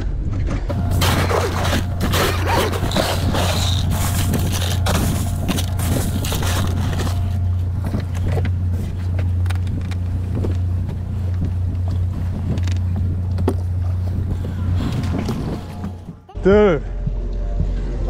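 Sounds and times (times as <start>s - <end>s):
boat engine humming: 0.7s - 18.0s.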